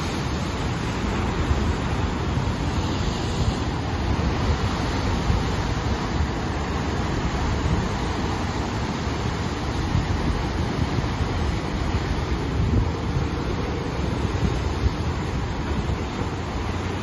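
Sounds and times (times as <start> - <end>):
surf breaking on rocky shore: 0.0 - 17.0
wind buffeting microphone: 0.0 - 17.0.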